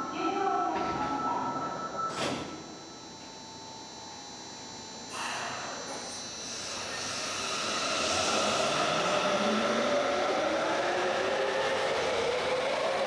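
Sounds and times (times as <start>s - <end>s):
train electrical hum: 0.0s - 13.0s.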